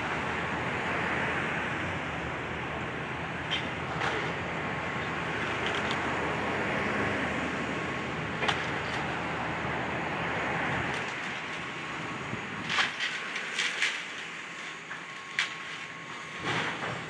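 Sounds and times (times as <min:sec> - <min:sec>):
excavator diesel engine running: 0:00.0 - 0:17.0
hiss of working noise: 0:00.0 - 0:17.0.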